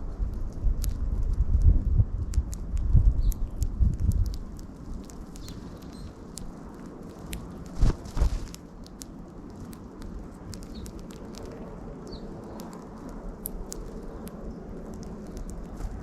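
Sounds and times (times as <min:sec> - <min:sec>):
beaks pecking and feet clicking: 0:00.8 - 0:01.4, 0:02.2 - 0:16.0.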